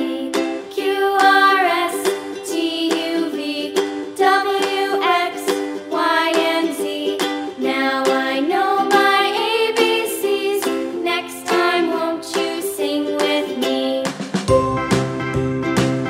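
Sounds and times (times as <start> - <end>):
plucked string music: 0.0 - 16.0.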